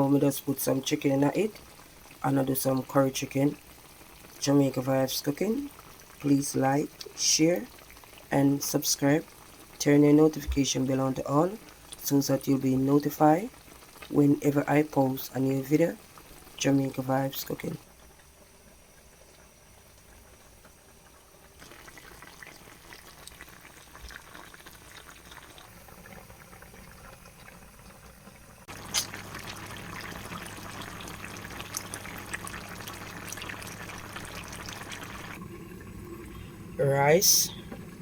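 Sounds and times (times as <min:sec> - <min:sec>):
pot bubbling and hissing: 0:00.0 - 0:38.0.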